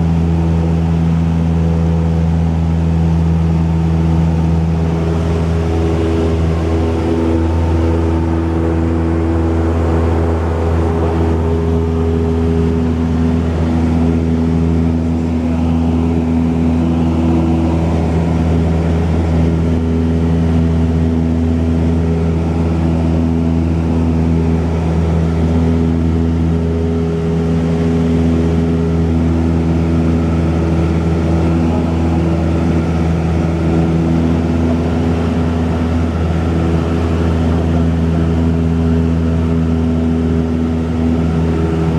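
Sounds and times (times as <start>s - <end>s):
propeller plane engine drone: 0.0s - 41.9s.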